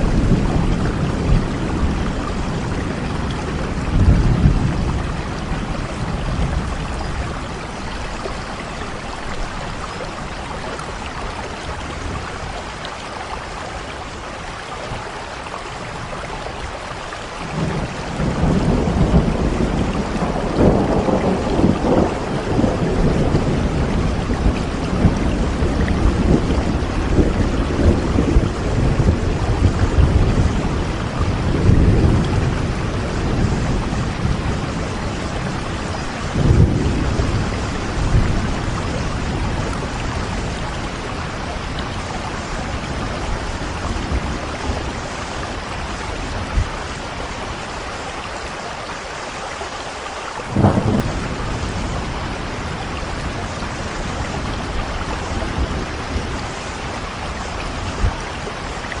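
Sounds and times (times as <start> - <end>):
thunder rumbling: 0.0 - 12.7, 17.5 - 47.7, 50.4 - 59.0
steady rain: 0.0 - 59.0.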